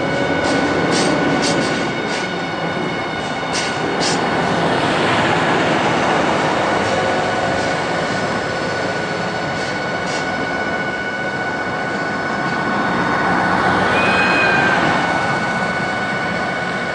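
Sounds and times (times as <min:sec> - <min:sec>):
freight train rumbling and hissing: 0:00.0 - 0:16.9.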